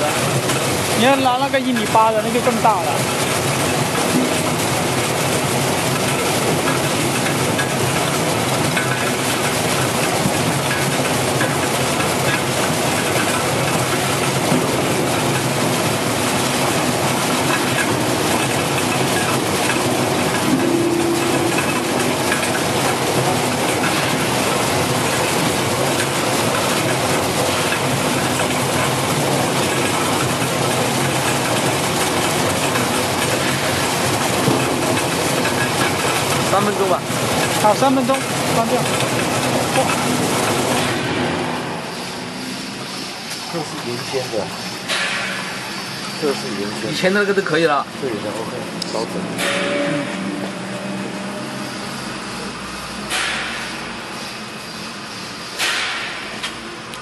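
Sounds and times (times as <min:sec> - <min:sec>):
peeling machine clattering: 0:00.0 - 0:55.0.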